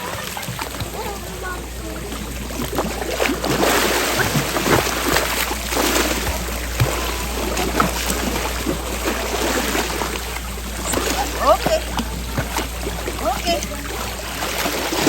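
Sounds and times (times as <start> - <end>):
seawater sloshing and splashing: 0.0 - 15.0.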